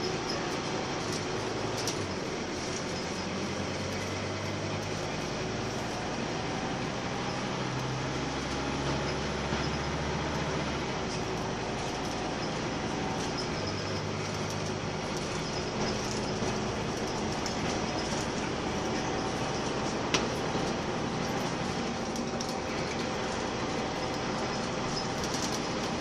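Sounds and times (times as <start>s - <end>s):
bus engine note: 0.0s - 26.0s
road and body noise: 0.0s - 26.0s.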